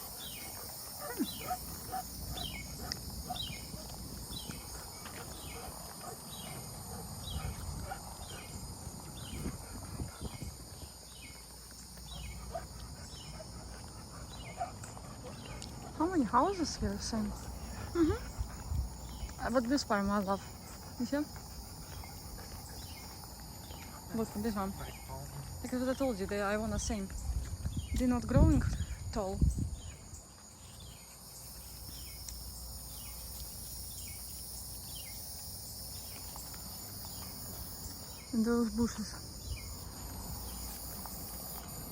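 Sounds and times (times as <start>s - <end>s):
high insect trill: 0.0s - 41.9s.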